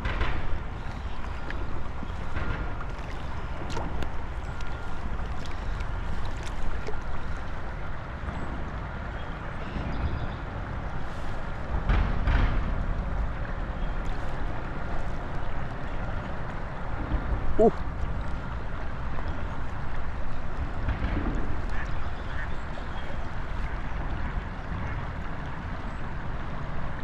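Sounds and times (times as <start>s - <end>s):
river water flowing: 0.0s - 27.0s
wind buffeting microphone: 0.0s - 27.0s.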